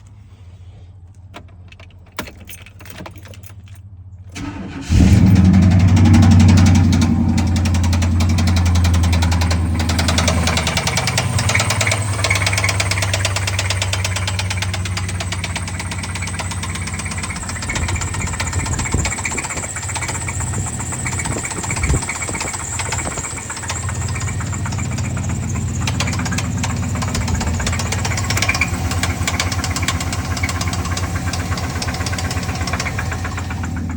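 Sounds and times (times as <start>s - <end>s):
car engine starting and idling: 0.0s - 33.9s
rhythmic engine knock: 5.5s - 33.9s.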